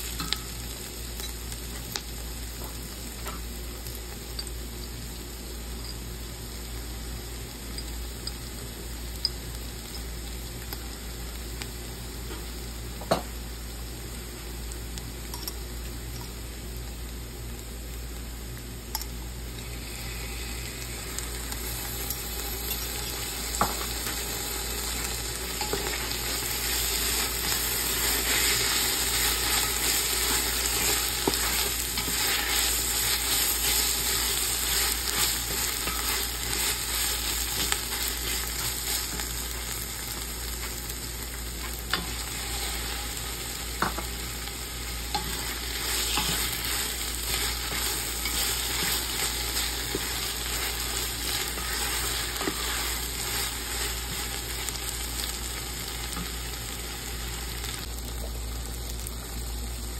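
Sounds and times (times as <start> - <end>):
onions sizzling in oil: 0.0 - 59.9.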